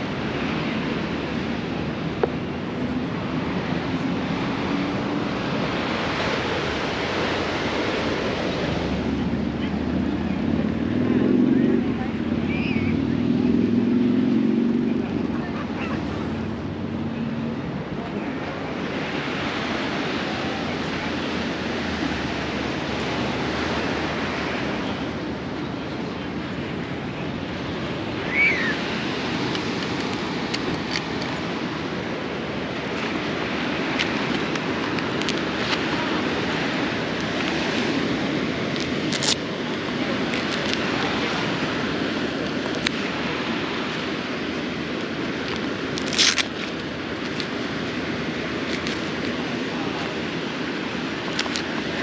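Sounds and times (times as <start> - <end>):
motorcycle engine and road noise: 0.0 - 52.0
wind rushing over microphone: 0.0 - 52.0.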